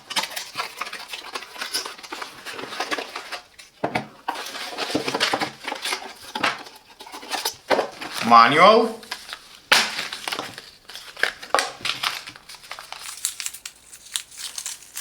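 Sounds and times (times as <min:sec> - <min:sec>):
plastic and cardboard rustling: 0:00.0 - 0:15.0.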